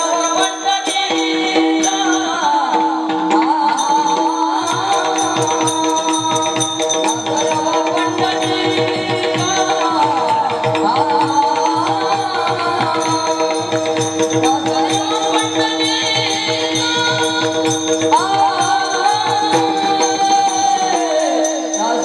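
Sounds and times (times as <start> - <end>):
jingling hand percussion: 0.0 - 22.0
person singing devotional melody: 0.0 - 22.0.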